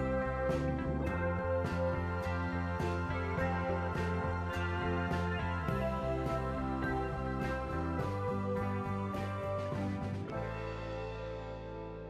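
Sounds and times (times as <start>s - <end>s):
background music notes and chord: 0.0s - 12.0s.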